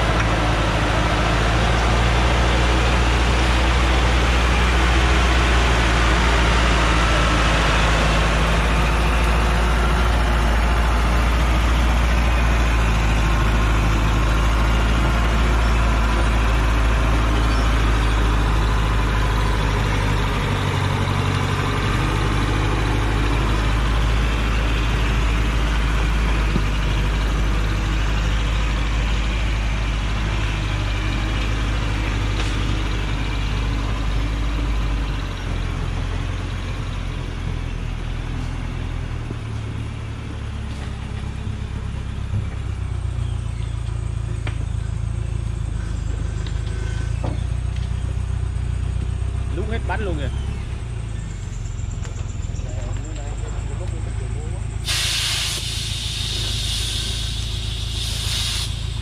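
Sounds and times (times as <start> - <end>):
truck engine under load: 0.0 - 59.0.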